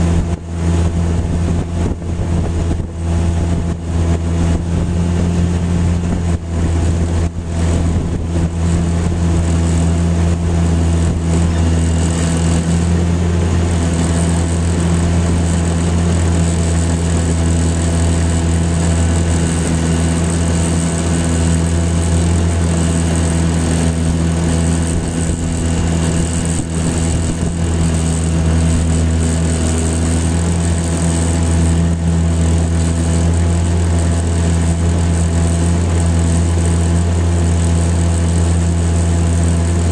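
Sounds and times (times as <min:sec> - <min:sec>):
outboard motor droning: 0:00.0 - 0:39.9.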